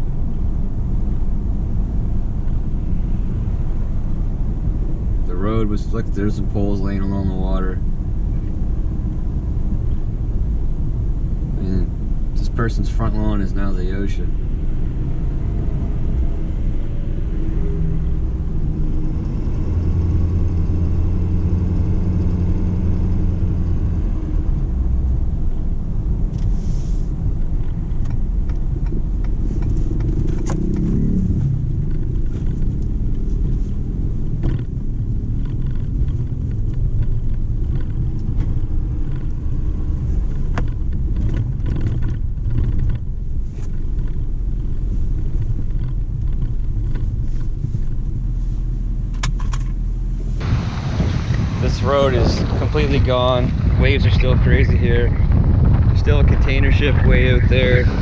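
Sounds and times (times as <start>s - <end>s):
pickup truck driving rumble: 0.0s - 58.0s
steady engine tone: 0.0s - 58.0s.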